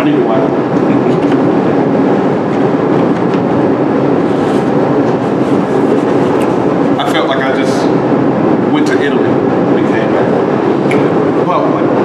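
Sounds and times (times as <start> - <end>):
loud steady rumbling: 0.0 - 12.0.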